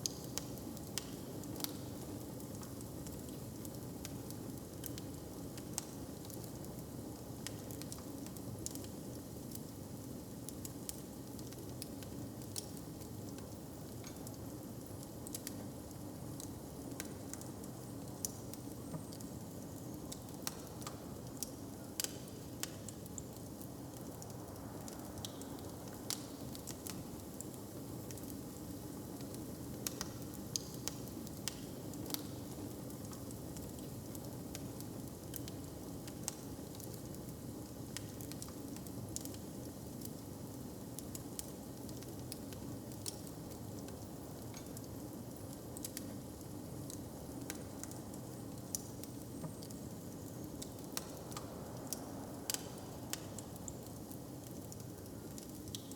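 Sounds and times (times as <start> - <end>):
fire crackling and popping: 0.0 - 9.7, 10.5 - 55.9.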